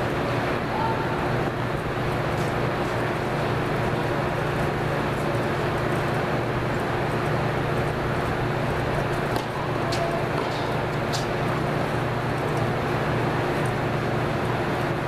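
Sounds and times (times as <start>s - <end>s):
air handling hum and hiss: 0.0s - 15.0s.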